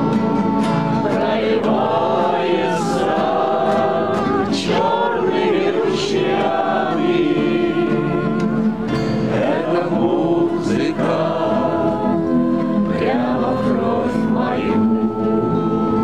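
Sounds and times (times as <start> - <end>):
men singing in unison: 0.0 - 16.0
strummed acoustic guitars: 0.0 - 16.0.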